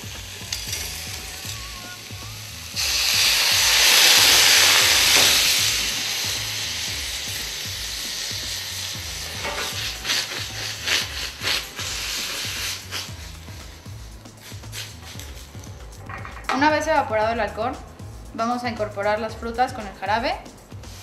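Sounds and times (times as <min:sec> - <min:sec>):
short sizzling bursts: 0:00.0 - 0:16.1, 0:19.8 - 0:21.0
liquid sizzling in hot pan: 0:00.0 - 0:16.6, 0:20.6 - 0:21.0.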